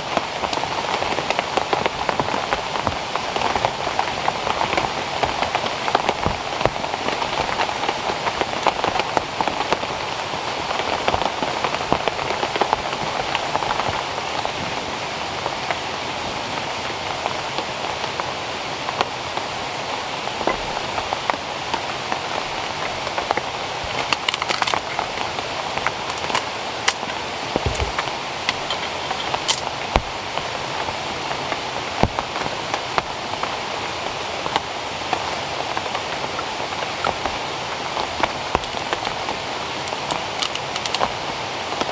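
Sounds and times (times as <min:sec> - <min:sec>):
steady rain patter: 0:00.0 - 0:41.9.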